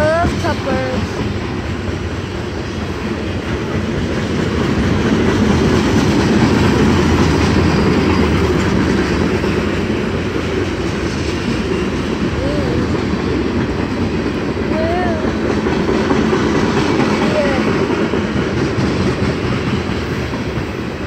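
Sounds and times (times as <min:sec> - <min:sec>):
train wheels rolling over rails: 0:00.0 - 0:21.0.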